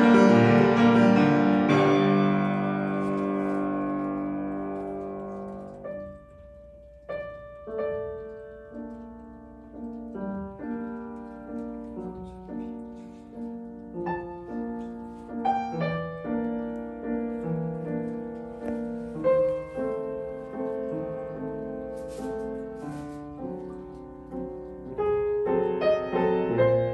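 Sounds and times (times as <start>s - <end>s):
slow gentle piano piece: 0.0s - 26.9s.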